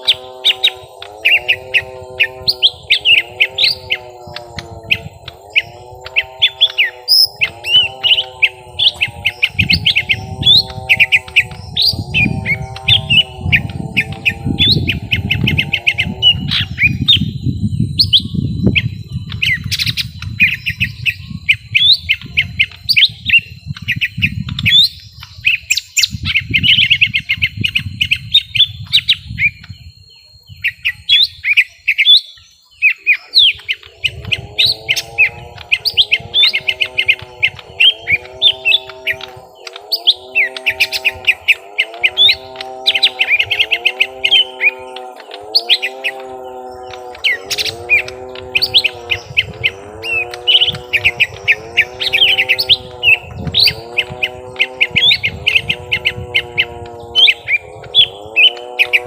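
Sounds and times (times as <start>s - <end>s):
birds chirping and chattering: 0.0s - 59.0s.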